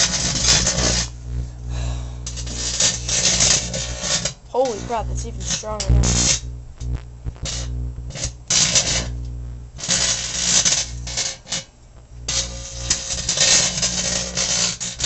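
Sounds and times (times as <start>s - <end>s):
electrical arcing crackling and snapping: 0.0s - 1.6s, 2.3s - 15.0s
microwave oven hum: 0.0s - 15.0s.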